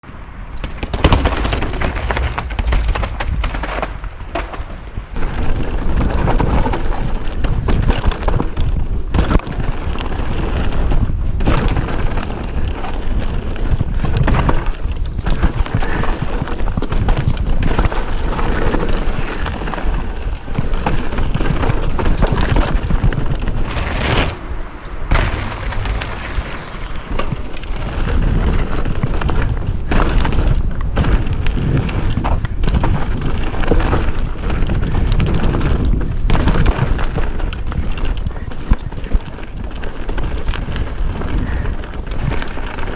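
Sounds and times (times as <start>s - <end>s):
wind buffeting microphone: 0.0s - 42.9s
bike knocks and rattles: 0.5s - 42.9s
tyres running over dirt: 0.5s - 42.9s.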